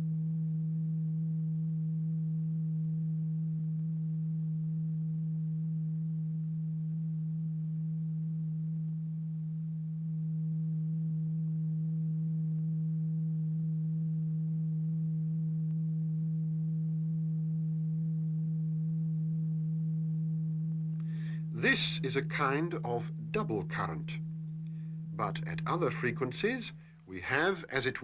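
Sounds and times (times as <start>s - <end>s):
low electronic test tone: 0.0s - 28.0s.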